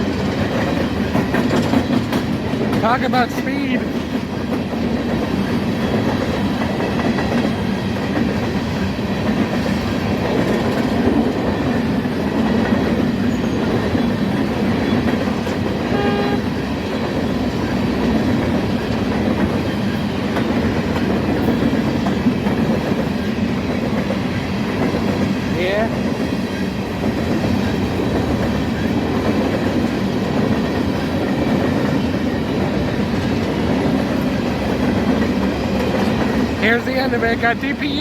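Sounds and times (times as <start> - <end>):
freight train rumbling past: 0.0 - 38.0
wheels clacking over rail joints: 0.0 - 38.0.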